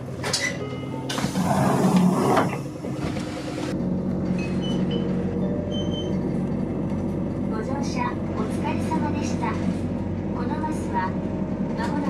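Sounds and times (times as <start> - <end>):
bus running noise: 0.0 - 12.0.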